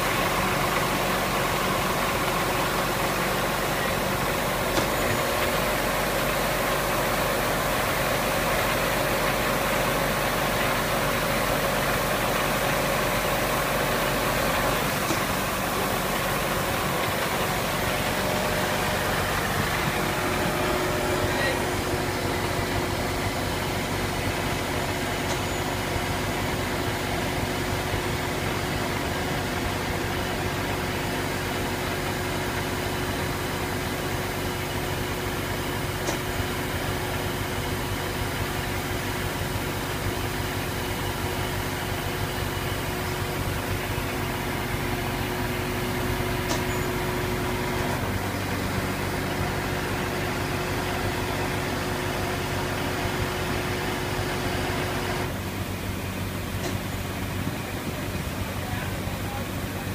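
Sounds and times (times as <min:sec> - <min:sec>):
crane engine idling: 0:00.0 - 0:59.9.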